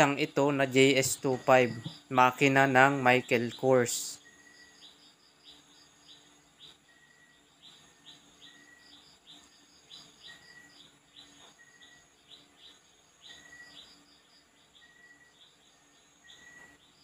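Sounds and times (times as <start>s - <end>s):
faint wildlife chirping: 0.0s - 17.0s.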